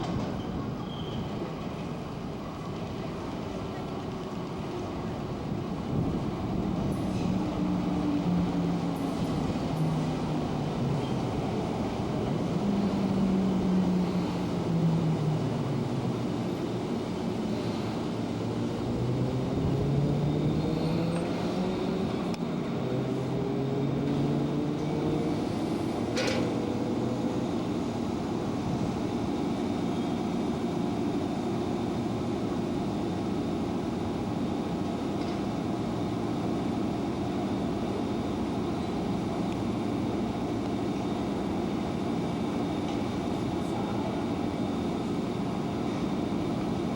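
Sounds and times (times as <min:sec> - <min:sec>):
rumble of train running gear: 0:00.0 - 0:46.9
train traction motors whining: 0:00.0 - 0:46.9.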